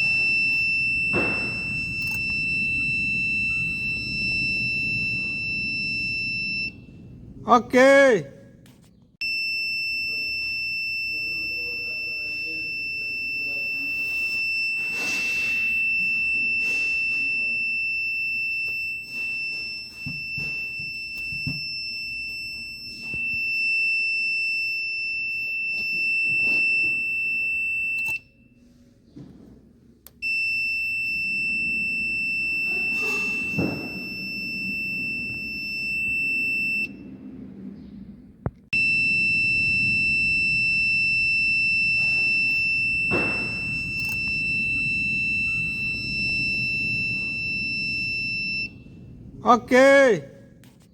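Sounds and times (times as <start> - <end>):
high-pitched alarm buzzer: 0.0 - 6.8, 9.2 - 28.4, 30.2 - 37.0, 38.7 - 48.8.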